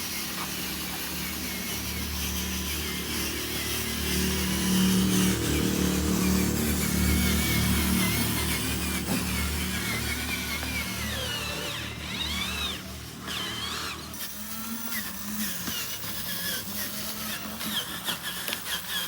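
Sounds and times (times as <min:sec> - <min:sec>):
small electric motors whining: 0:00.0 - 0:19.0.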